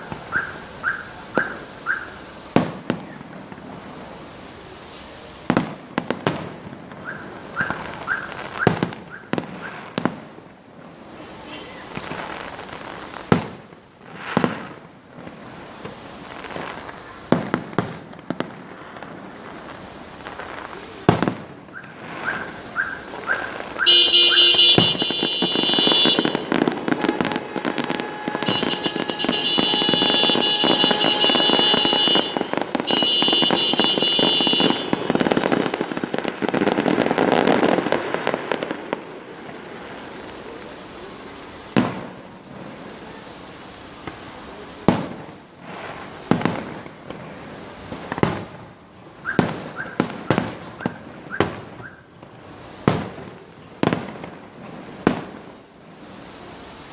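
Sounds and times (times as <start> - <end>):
fireworks bangs with echo: 0.0 - 56.9
rapid crackling of fireworks: 0.0 - 56.9
shrill whistling fireworks: 0.0 - 56.9.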